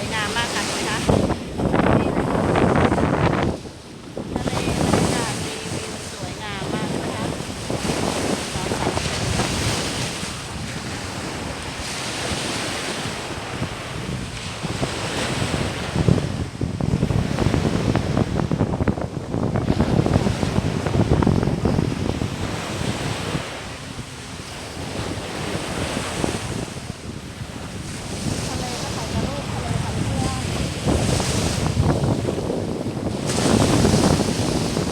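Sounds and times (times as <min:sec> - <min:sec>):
sea waves washing on shore: 0:00.0 - 0:34.9
wind buffeting microphone: 0:00.0 - 0:34.9.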